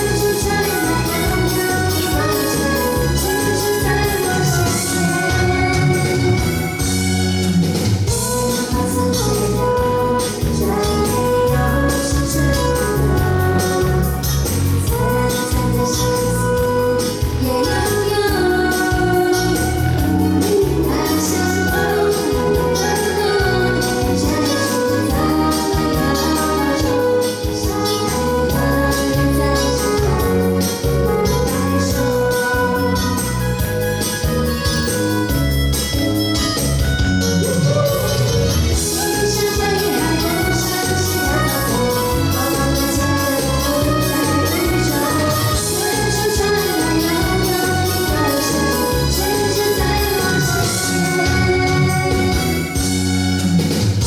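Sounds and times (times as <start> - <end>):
song with steady beat: 0.0 - 54.0.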